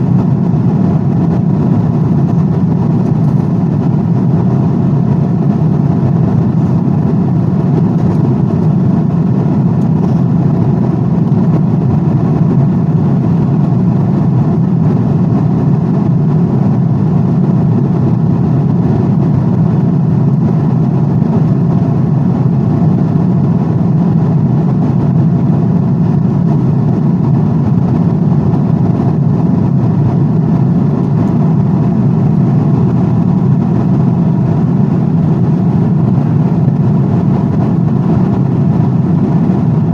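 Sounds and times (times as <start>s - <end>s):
airplane low rushing drone: 0.0s - 39.9s.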